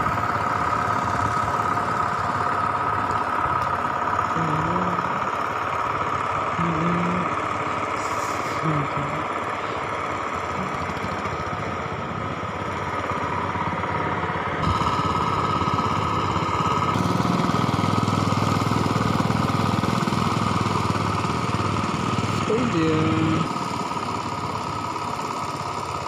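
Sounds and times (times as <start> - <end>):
power tiller engine pulsing: 0.0 - 26.0.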